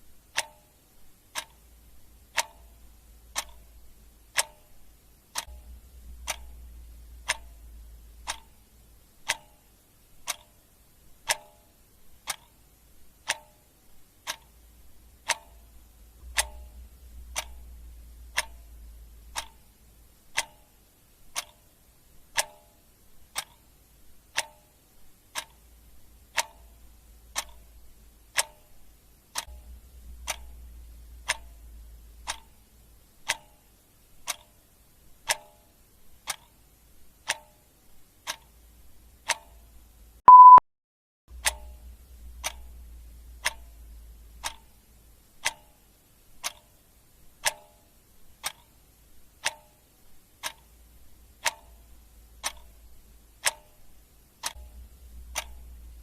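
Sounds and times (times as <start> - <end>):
clock ticking: 0.0 - 40.6, 41.3 - 56.0
faint low hum: 0.0 - 40.6, 41.3 - 56.0.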